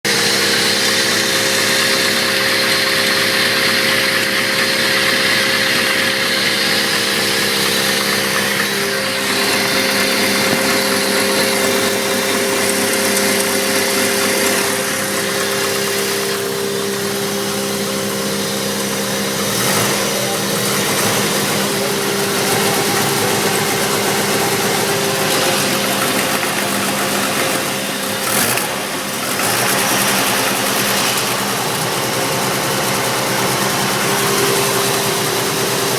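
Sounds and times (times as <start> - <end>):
engine idling with knock: 0.0 - 35.9.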